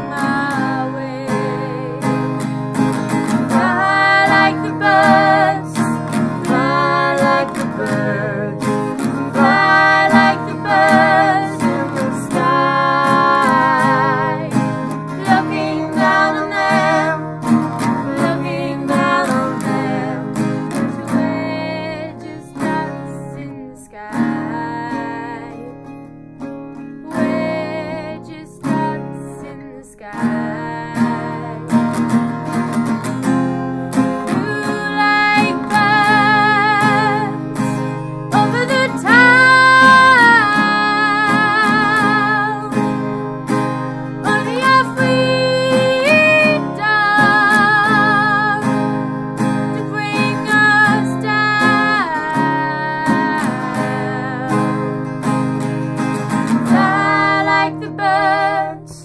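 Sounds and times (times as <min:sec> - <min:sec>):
girl singing with vibrato: 0:00.0 - 0:02.4, 0:03.1 - 0:25.8, 0:27.0 - 0:31.9, 0:34.2 - 0:43.1, 0:44.1 - 0:48.9, 0:49.6 - 0:55.2, 0:56.4 - 0:59.0
acoustic guitar: 0:00.0 - 0:59.0.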